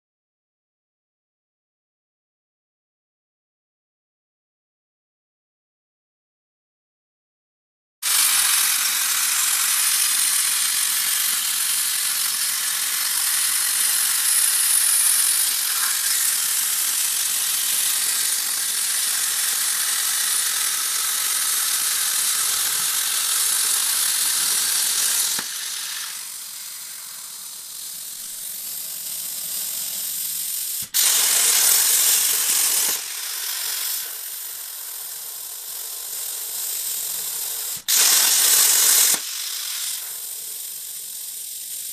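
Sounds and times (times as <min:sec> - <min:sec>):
plasma torch hissing: 0:08.0 - 0:41.9.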